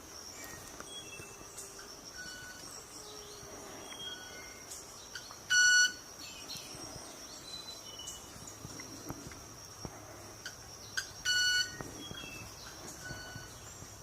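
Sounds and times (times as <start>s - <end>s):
high insect whine: 0.0s - 14.0s
faint bird chirps: 0.3s - 9.4s, 10.4s - 14.0s.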